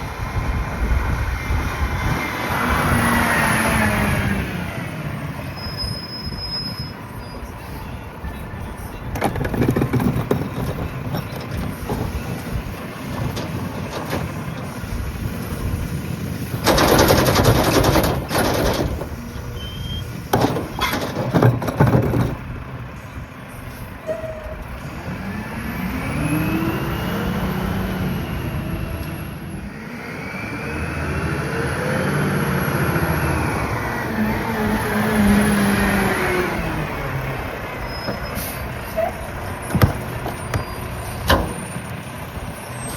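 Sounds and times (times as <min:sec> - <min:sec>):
garbage truck diesel engine: 0:00.0 - 0:42.9.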